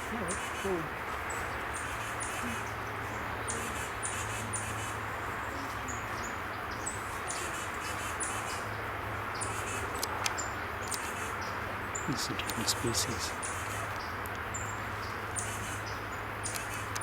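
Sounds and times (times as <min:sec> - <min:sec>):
small songbirds calling: 0:00.0 - 0:17.0.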